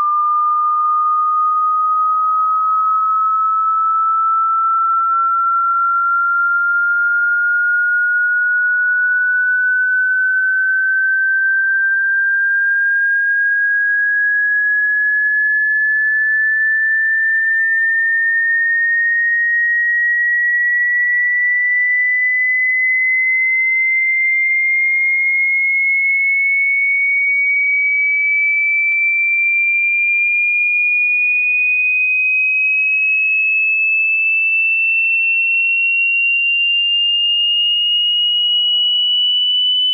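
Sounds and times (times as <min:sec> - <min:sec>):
rising sine test tone: 0:00.0 - 0:39.9.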